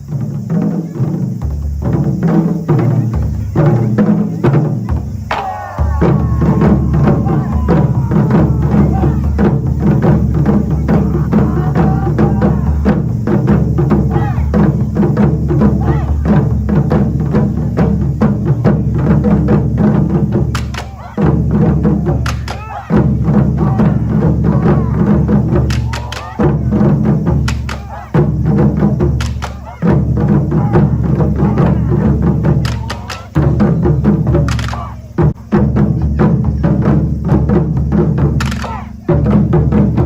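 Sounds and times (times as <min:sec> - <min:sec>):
taiko drum ensemble: 0:00.0 - 0:40.0.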